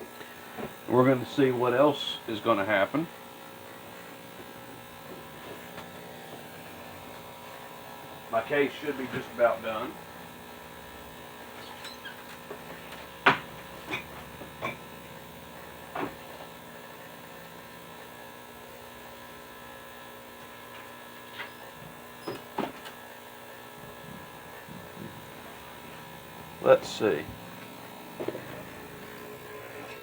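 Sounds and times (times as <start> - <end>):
ultrasonic cleaner buzzing: 0.0 - 30.0.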